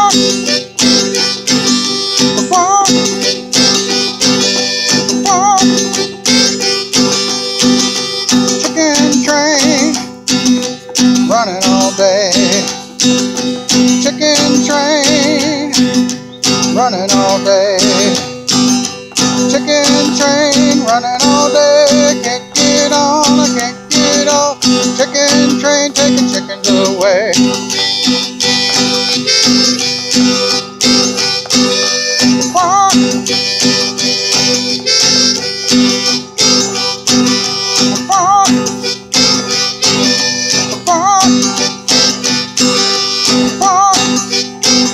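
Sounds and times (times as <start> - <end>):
acoustic guitar strumming: 0.0 - 44.9
harmonica melody: 0.0 - 44.9.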